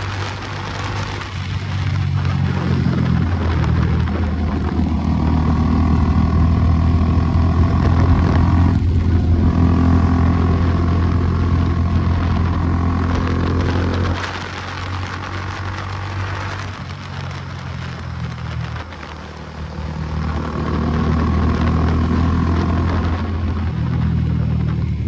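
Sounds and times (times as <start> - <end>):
motorcycle engine while riding: 0.0 - 25.0.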